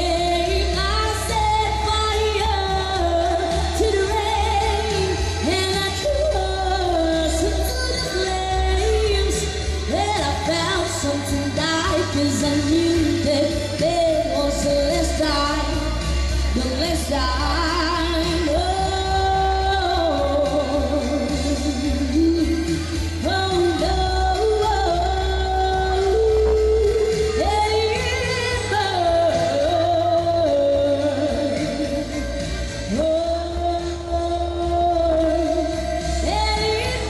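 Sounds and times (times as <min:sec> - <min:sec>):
backing music with bass: 0:00.0 - 0:37.0
person singing pop song: 0:00.0 - 0:37.0.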